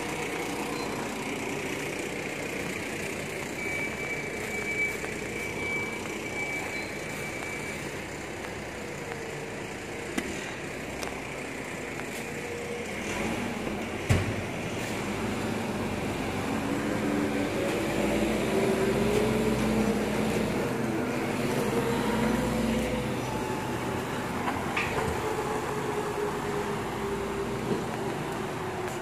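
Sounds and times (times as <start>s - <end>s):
diesel truck engine pulling away: 0.0s - 29.0s.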